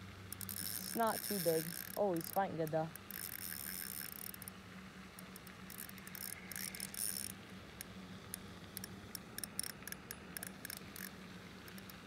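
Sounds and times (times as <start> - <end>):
fishing reel ratcheting: 0.3 - 4.5, 5.2 - 7.4, 8.3 - 12.0.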